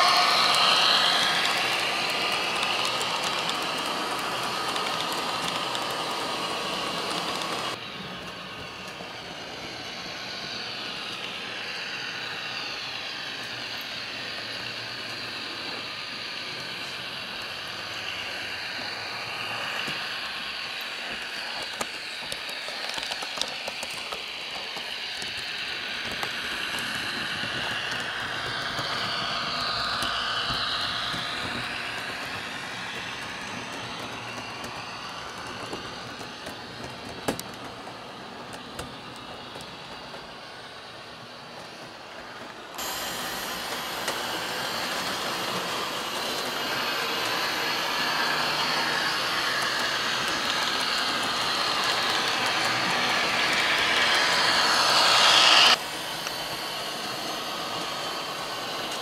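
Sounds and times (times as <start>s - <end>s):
model train diesel engine sound: 0.0s - 59.0s.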